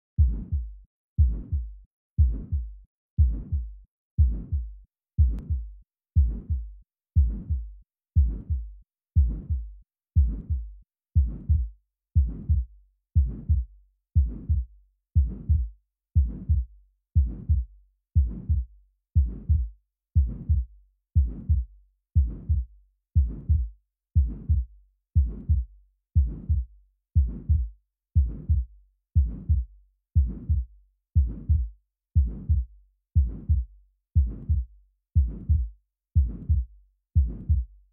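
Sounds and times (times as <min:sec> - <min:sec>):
heartbeat with murmur: 0:00.2 - 0:37.8.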